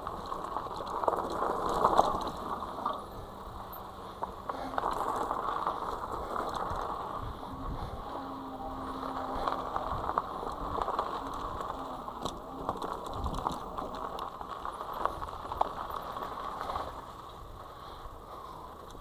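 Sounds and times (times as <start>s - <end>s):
bike drivetrain rattles and clicks: 0.0s - 19.0s
bike tyres crunching on sand: 0.0s - 19.0s.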